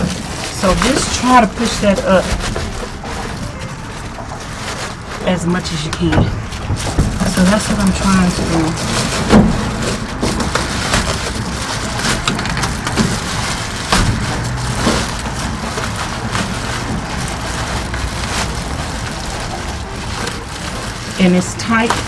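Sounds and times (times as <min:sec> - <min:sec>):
foil insulation crinkling: 0:00.0 - 0:22.0.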